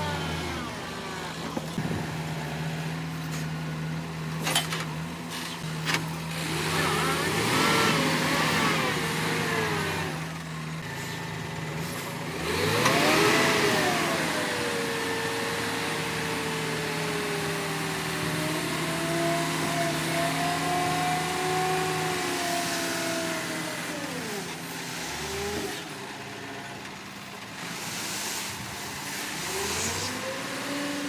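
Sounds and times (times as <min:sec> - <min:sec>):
digger engine revving: 0:00.0 - 0:31.0.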